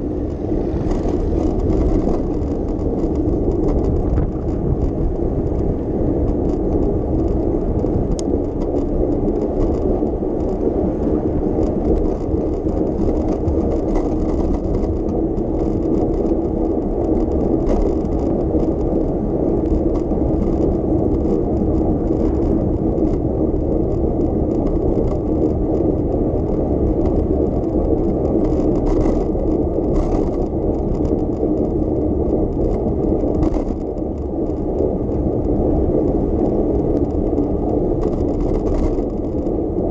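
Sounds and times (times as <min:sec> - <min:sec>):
bicycle rolling: 0:00.0 - 0:39.9
wind on microphone: 0:00.0 - 0:39.9.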